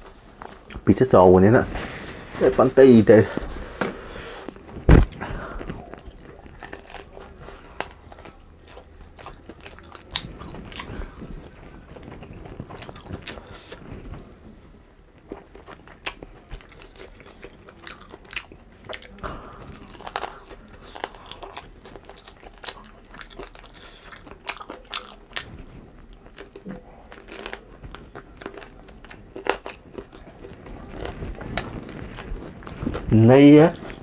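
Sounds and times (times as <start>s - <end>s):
person chewing crunchy food: 3.4s - 34.0s.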